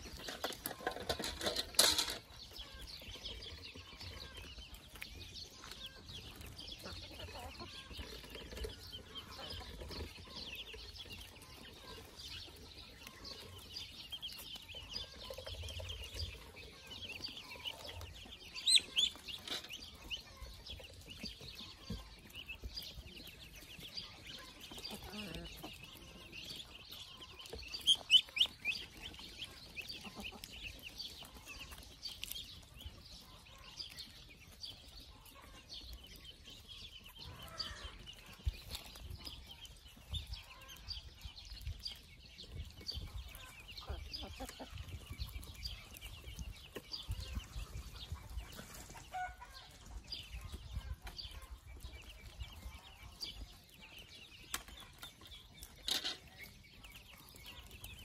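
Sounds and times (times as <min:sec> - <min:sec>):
chickens clucking: 0:00.0 - 0:58.0
ducklings peeping: 0:00.0 - 0:58.0.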